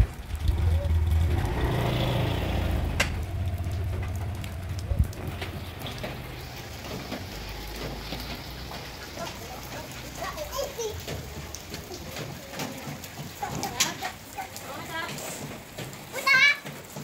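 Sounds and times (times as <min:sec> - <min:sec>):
vehicle engine rumbling: 0:00.0 - 0:15.9
rain on wet pavement: 0:00.0 - 0:17.0.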